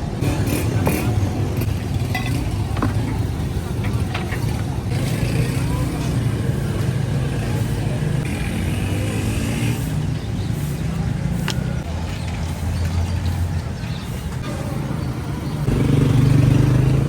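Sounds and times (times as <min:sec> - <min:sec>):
vehicle engines in traffic: 0:00.0 - 0:17.0
voices: 0:00.0 - 0:17.0.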